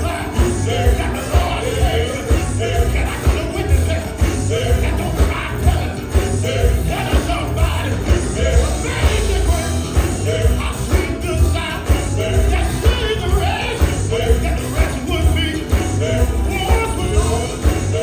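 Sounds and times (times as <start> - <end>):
heavy bass line: 0.0 - 18.0
steady drum beat: 0.0 - 18.0
voices singing: 0.0 - 18.0.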